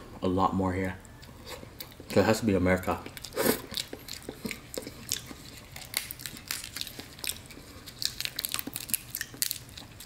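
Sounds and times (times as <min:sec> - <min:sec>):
chewing and lip smacking: 0:01.0 - 0:02.2, 0:02.8 - 0:10.0.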